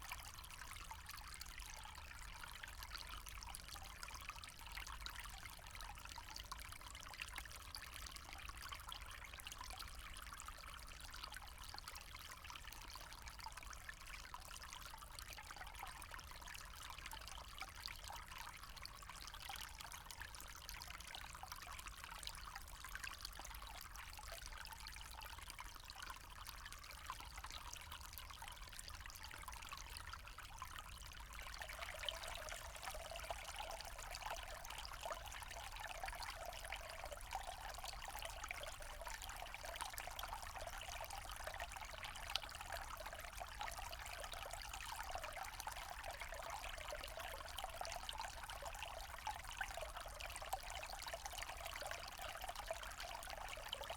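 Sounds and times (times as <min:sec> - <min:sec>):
stream trickling over stones: 0:00.0 - 0:53.9.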